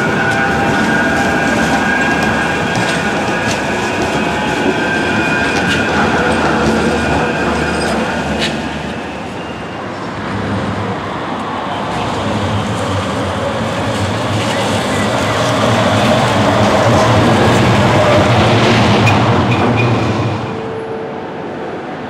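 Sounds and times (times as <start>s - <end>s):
distant tram approaching: 0.0s - 22.0s
tram wheels rumbling: 0.0s - 22.0s.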